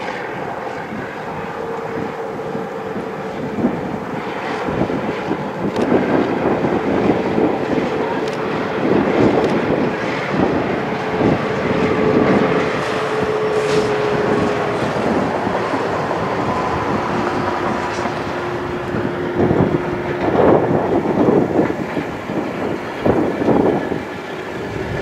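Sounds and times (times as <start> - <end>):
diesel locomotive engine passing: 0.0 - 25.0.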